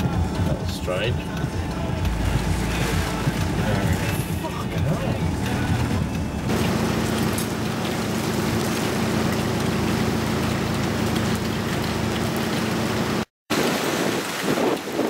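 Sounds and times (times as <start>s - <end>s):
low hum: 0.0s - 13.3s
heavy rain and wind hiss: 0.0s - 15.0s.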